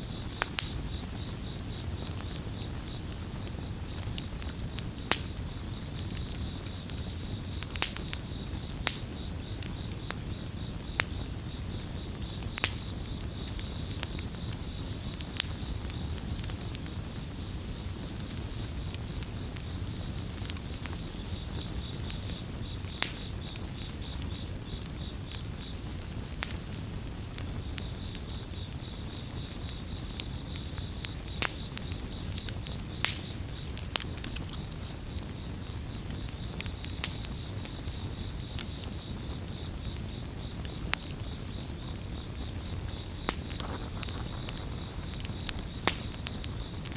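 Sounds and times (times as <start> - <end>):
campfire crackling: 0.0 - 46.9
crickets chirping: 0.0 - 46.9.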